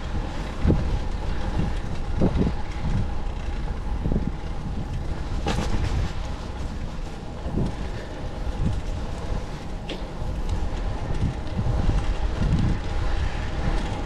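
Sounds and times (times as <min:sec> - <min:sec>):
low road rumble: 0:00.0 - 0:14.0
wind buffeting microphone: 0:00.0 - 0:14.0.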